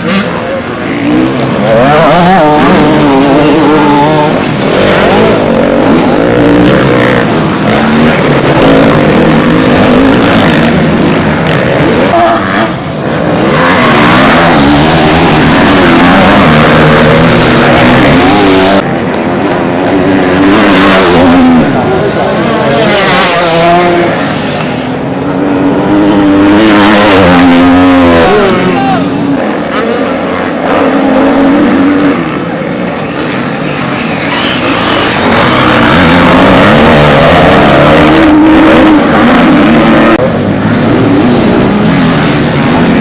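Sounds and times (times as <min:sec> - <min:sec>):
motocross bike engines revving: 0:00.0 - 0:43.0.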